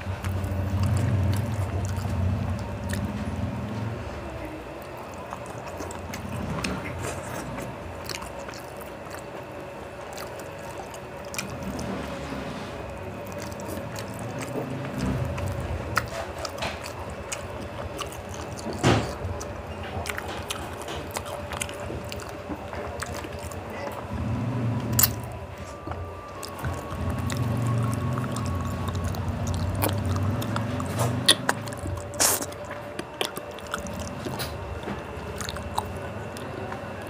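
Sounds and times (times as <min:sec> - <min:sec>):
wet chewing and lip smacks: 0:00.0 - 0:04.0, 0:04.8 - 0:12.2, 0:12.8 - 0:37.0
faint steady hum: 0:00.0 - 0:37.0.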